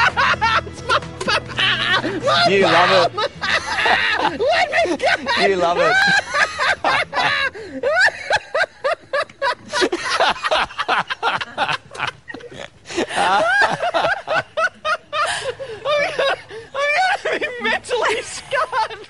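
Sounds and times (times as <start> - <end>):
people laughing: 0.0 - 19.0.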